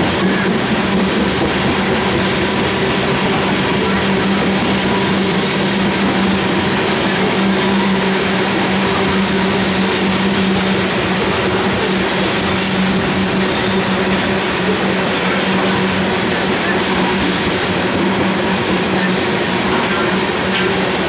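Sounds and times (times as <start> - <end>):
freight train rolling on rails: 0.0 - 21.0.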